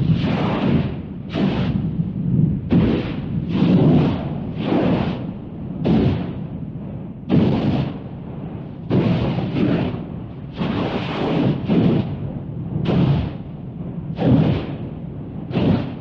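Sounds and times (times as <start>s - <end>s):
deep booming blasts: 0.0s - 16.0s
steady low rumble: 0.0s - 16.0s.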